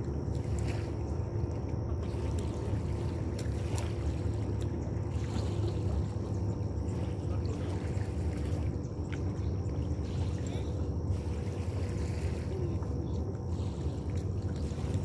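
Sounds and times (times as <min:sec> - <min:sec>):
boat engine rumbling: 0:00.0 - 0:15.0
faint steady hum: 0:00.0 - 0:15.0.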